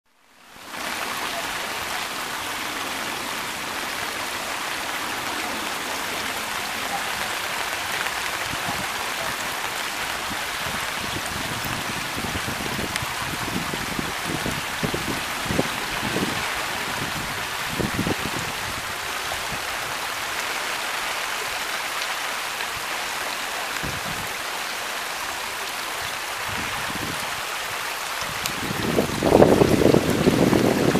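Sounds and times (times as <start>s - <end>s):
rainwater runoff flowing: 0.1s - 30.9s.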